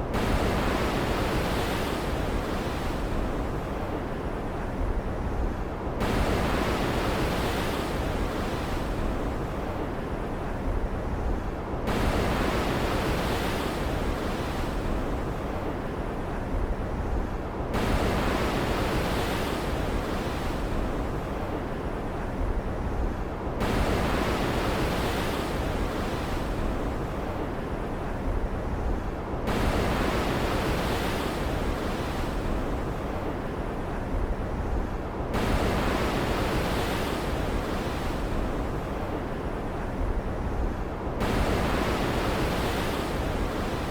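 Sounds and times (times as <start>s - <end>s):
wind: 0.0s - 43.9s.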